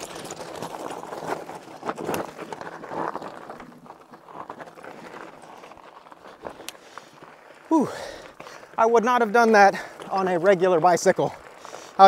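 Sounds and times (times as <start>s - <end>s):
tyres crunching over loose rocks: 0.0s - 12.0s.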